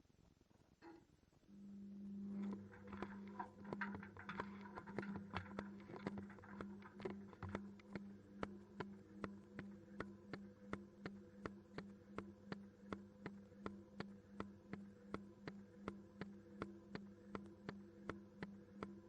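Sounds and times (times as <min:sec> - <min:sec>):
low motor hum: 0:01.5 - 0:19.0
washing machine drum ticking: 0:02.3 - 0:19.0.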